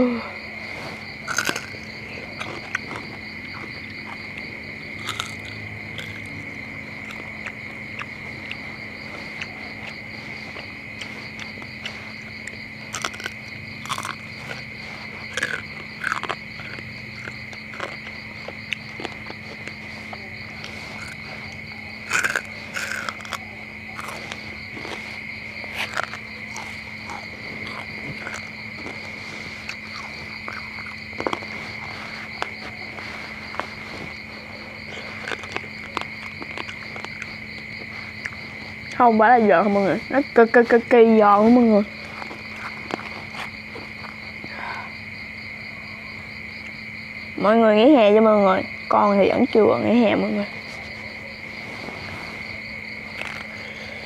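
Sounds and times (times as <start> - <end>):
crunching and chewing food: 0.0 - 47.4, 49.5 - 54.0
crickets chirping: 0.0 - 54.0.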